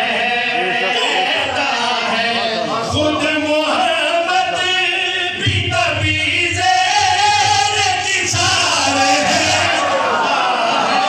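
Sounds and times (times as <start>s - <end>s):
men chanting into microphones: 0.0s - 11.0s.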